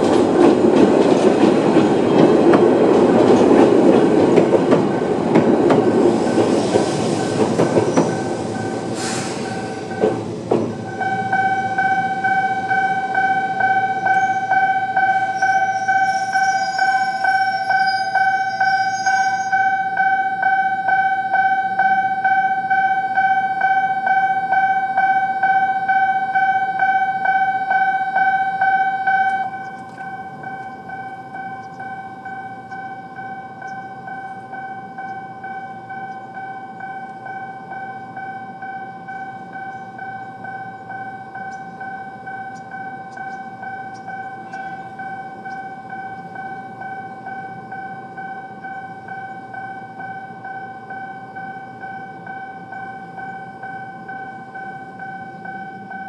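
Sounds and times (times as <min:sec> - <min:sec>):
level crossing warning bell: 0:00.0 - 0:56.0.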